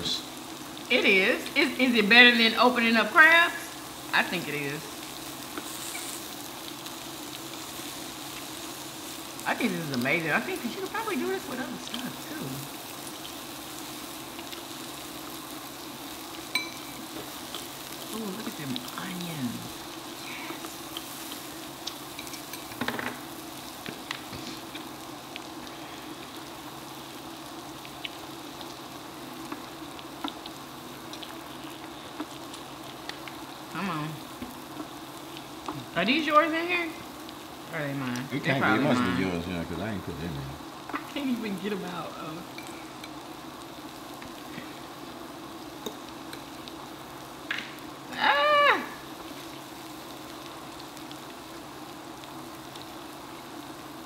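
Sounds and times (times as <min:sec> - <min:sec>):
meat and onions sizzling on grill: 0:00.0 - 0:54.0.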